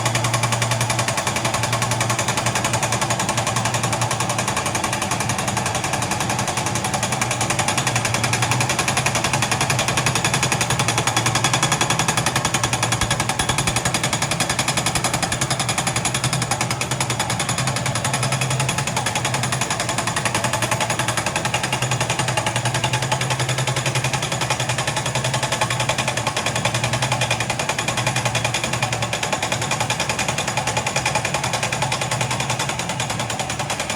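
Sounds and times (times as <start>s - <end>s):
hydraulic breaker hammering: 0.0s - 33.9s.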